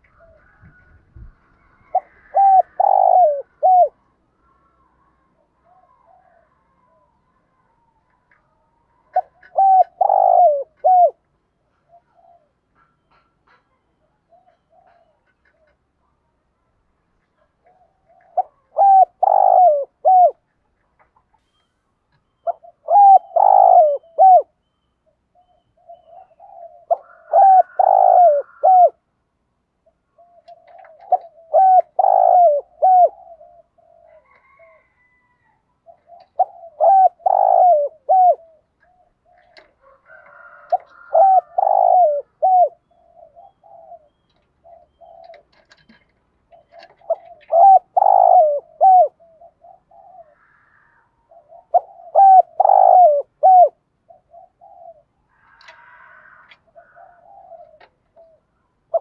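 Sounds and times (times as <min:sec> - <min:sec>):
dove cooing: 0:01.8 - 0:04.0, 0:04.7 - 0:15.9, 0:17.4 - 0:20.5, 0:22.4 - 0:24.6, 0:25.4 - 0:29.0, 0:29.8 - 0:59.0.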